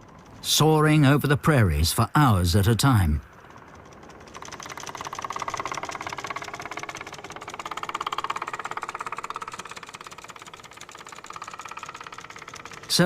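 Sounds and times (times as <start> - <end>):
propeller plane engine running: 0.0 - 13.0.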